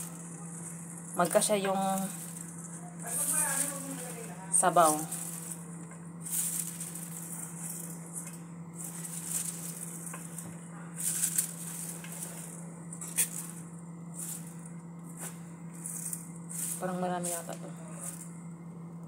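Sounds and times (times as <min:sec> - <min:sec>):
plastic bag crinkling: 0:00.0 - 0:18.5
shredded vegetables rustling: 0:00.0 - 0:18.6
steady low hum: 0:00.0 - 0:19.0.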